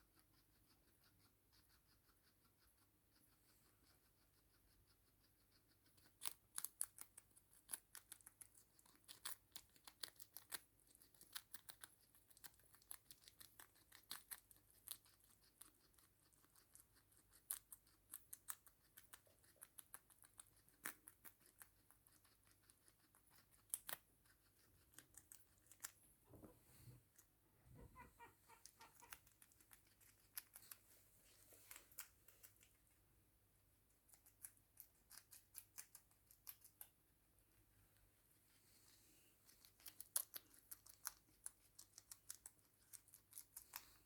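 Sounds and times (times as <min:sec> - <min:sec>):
guinea pig chewing: 0:00.0 - 0:38.6, 0:39.3 - 0:44.0.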